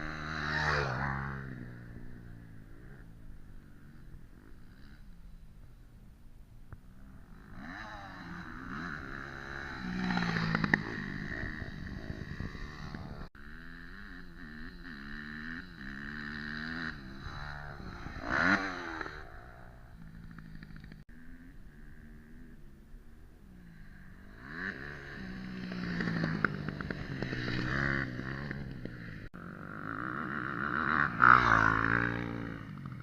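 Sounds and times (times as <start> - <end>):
motocross engines revving: 0.0 - 5.7, 6.9 - 33.0.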